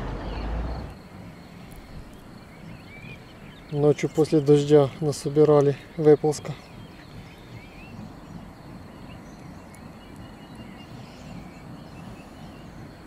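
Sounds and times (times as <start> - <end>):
low background rumble: 0.0 - 13.0
faint bird chirps: 0.2 - 13.0.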